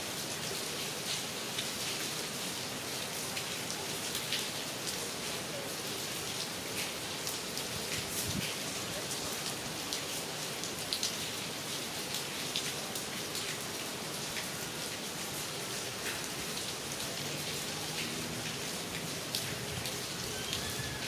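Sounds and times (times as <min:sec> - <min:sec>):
steady rain falling: 0:00.0 - 0:21.0
raindrops ticking close by: 0:02.7 - 0:21.0.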